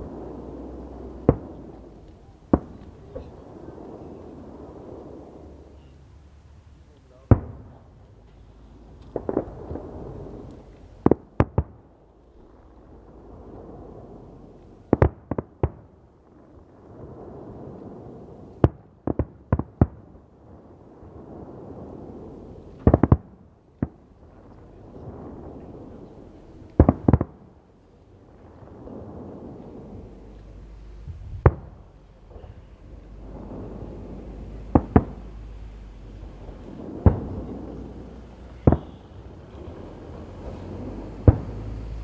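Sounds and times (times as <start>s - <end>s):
steady background noise: 0.0s - 15.0s, 20.6s - 42.0s
fireworks banging: 0.0s - 42.0s.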